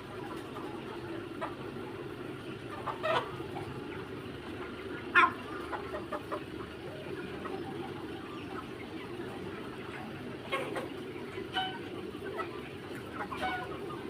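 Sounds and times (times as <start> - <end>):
chickens clucking: 0.0 - 14.0
sharp chicken calls: 0.0 - 14.0.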